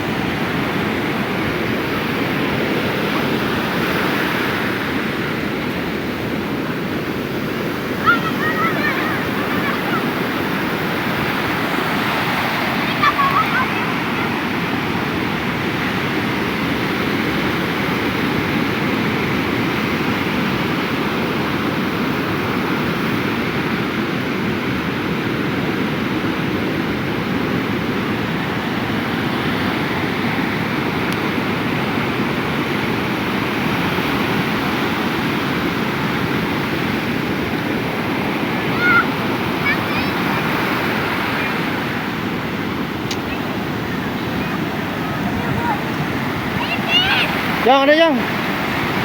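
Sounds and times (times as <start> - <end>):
ocean surf washing onto beach: 0.0 - 49.0.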